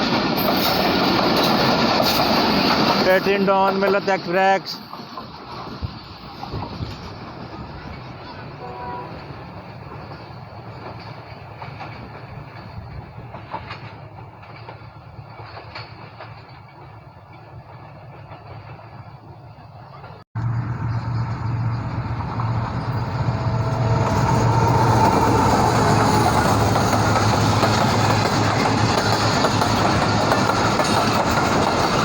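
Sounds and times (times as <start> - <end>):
train wheels clattering on rails: 0.0 - 20.2, 20.8 - 32.0
diesel locomotive engine hum: 0.0 - 32.0.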